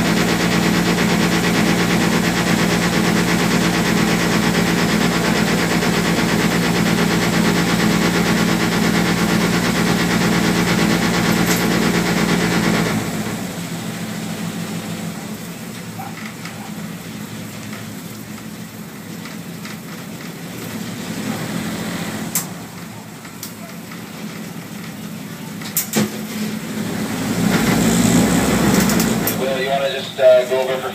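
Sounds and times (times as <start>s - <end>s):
ferry engine running: 0.0s - 30.9s.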